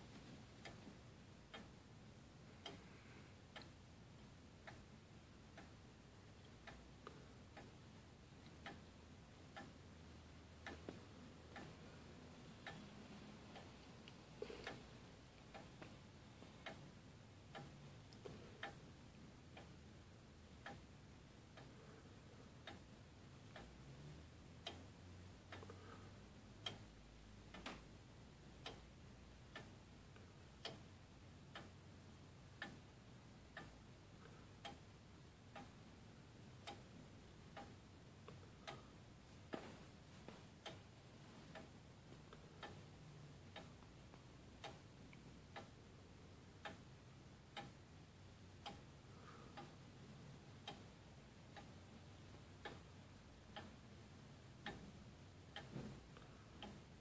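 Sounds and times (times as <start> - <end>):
grandfather clock ticking: 0.0 - 57.0.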